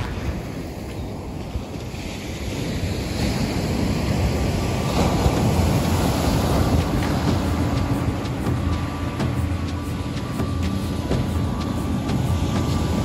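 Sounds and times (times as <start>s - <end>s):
surf breaking on a beach: 0.0s - 13.0s
wind buffeting microphone: 0.0s - 13.0s.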